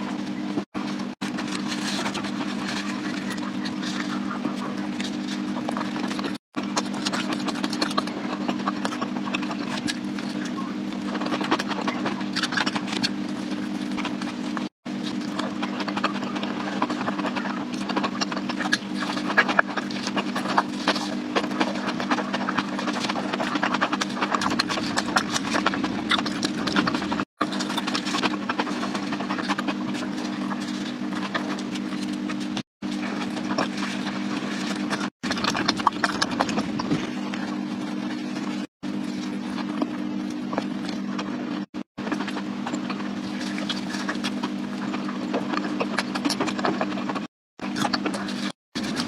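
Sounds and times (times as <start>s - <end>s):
steady low hum: 0.0s - 49.0s
chewing with wet crackles: 0.1s - 49.0s.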